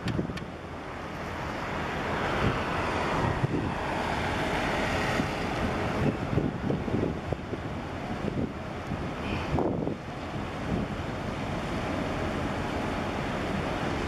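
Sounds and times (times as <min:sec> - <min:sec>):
rush of churned sea water: 0:00.0 - 0:14.0
wind buffeting microphone: 0:00.0 - 0:14.0.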